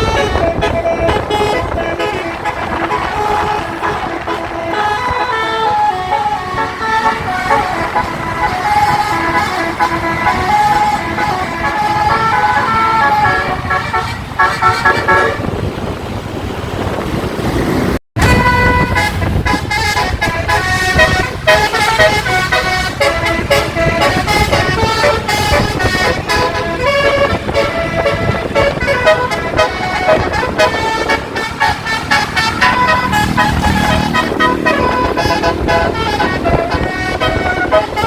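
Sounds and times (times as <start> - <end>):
musical bus horn playing tune: 0.0 - 16.0, 18.2 - 38.0.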